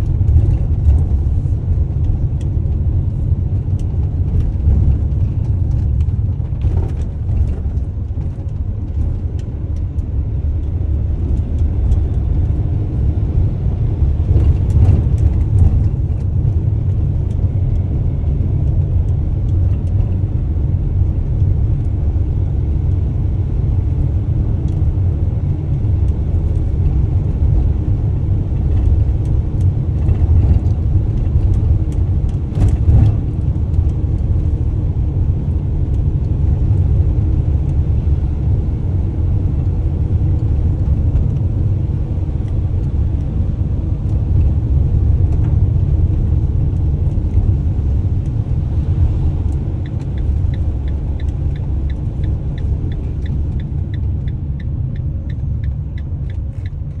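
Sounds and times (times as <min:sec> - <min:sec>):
van engine and road noise: 0:00.0 - 0:57.0.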